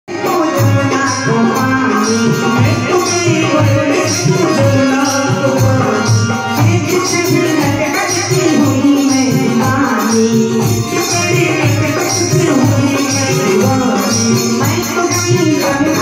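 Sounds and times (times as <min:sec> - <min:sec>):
electronic keyboard melody: 0:00.1 - 0:16.0.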